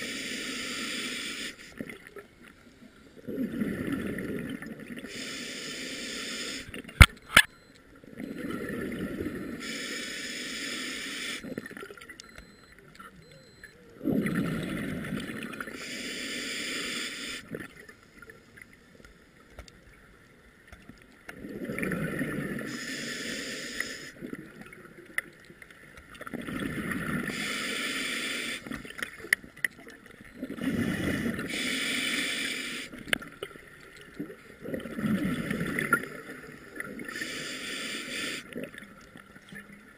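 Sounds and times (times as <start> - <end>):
exhaled air bubbling underwater: 0.0 - 7.3, 8.0 - 18.3, 21.1 - 39.9.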